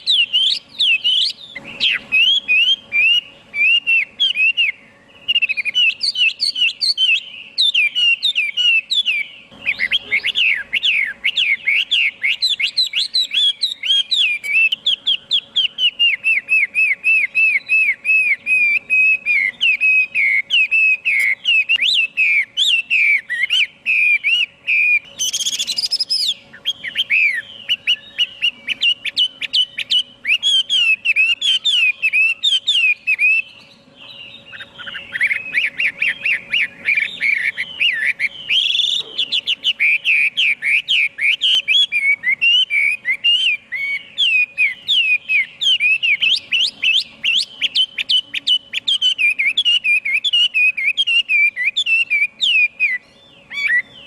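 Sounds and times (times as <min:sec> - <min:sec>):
bird singing whistled phrases: 0:00.0 - 0:54.0
faint steady hum: 0:00.0 - 0:54.0.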